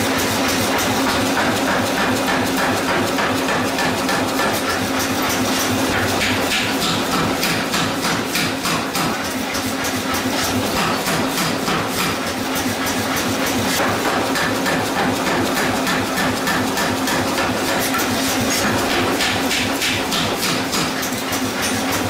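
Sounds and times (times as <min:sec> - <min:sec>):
forging hammer pounding steel: 0:00.2 - 0:22.0.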